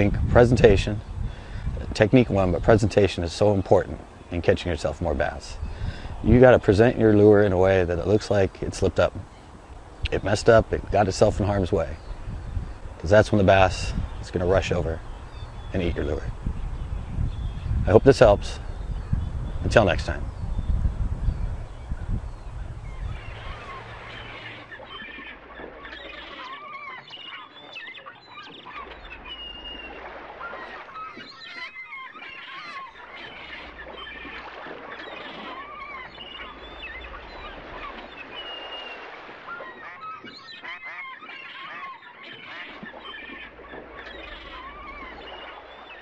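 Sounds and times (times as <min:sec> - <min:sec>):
birds calling: 0:00.0 - 0:46.0.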